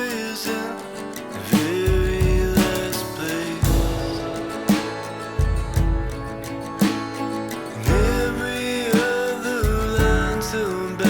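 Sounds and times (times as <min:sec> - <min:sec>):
song with guitar and bass: 0:00.0 - 0:11.0.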